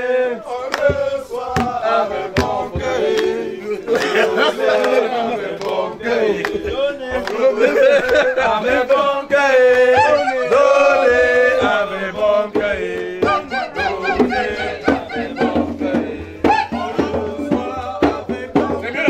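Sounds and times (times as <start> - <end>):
group singing a chant: 0.0 - 19.0
rhythmic clapping: 0.0 - 19.0.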